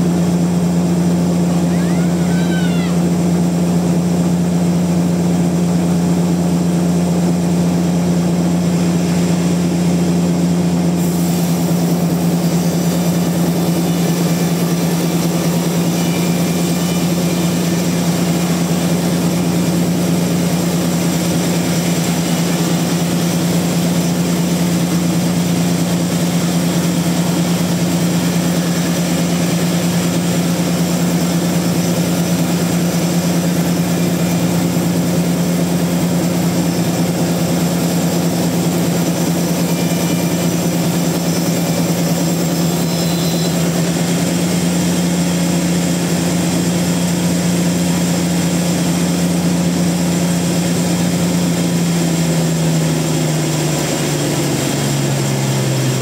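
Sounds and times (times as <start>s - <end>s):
sawmill machinery motor hum: 0.0s - 56.0s.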